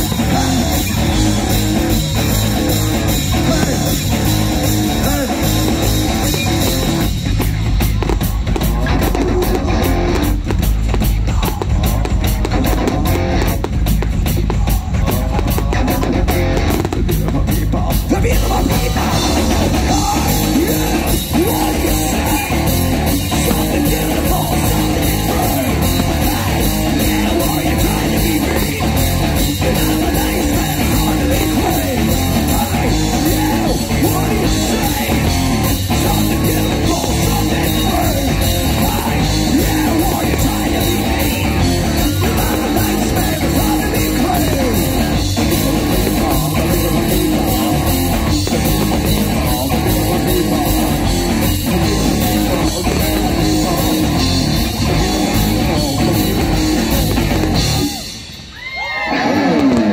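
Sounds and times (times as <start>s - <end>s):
person singing: 0.0s - 7.1s, 8.1s - 13.7s, 14.3s - 58.2s
bass guitar: 0.0s - 59.9s
drum kit: 0.0s - 59.9s
electric guitars: 0.0s - 59.9s.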